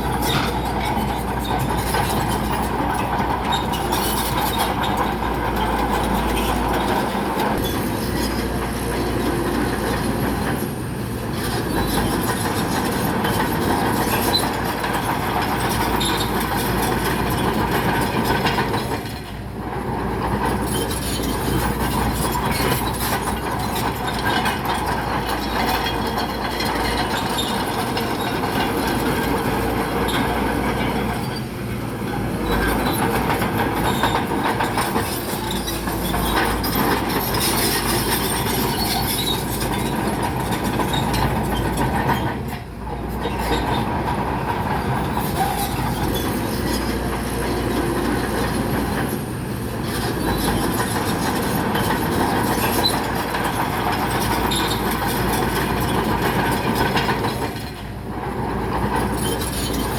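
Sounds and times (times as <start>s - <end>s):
bulldozer tracks clanking and squealing: 0.0s - 59.9s.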